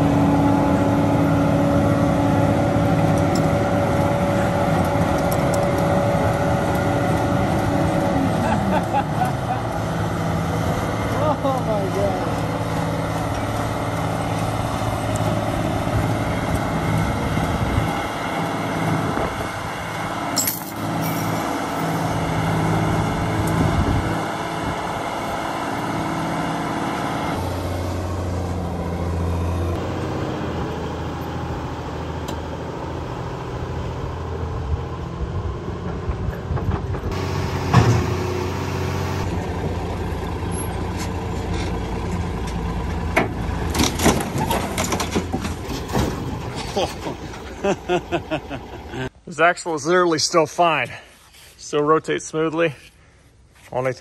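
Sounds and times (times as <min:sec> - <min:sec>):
truck engine running under load: 0:00.0 - 0:49.1.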